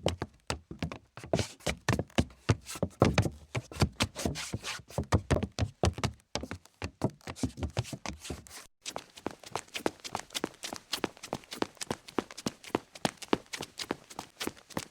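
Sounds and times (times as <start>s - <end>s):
running footsteps sharp taps: 0.0s - 4.2s, 4.9s - 14.9s.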